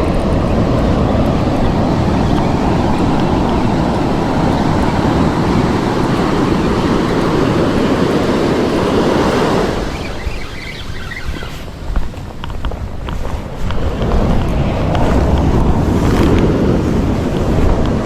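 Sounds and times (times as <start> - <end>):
ocean wave breaking: 0.0 - 18.0.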